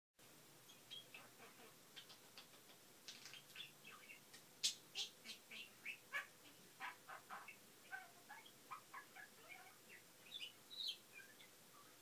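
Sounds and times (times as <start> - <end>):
budgerigar chirping: 0.7 - 2.4, 3.3 - 11.6.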